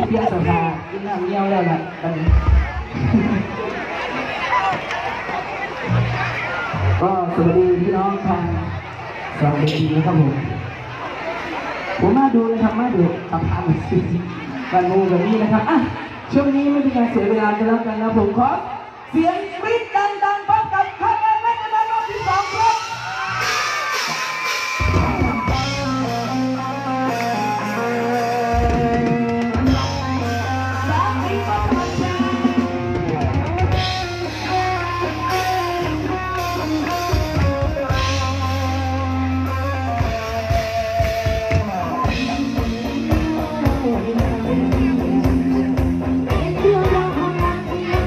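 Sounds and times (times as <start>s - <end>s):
live band music: 0.0s - 16.2s, 20.8s - 48.0s.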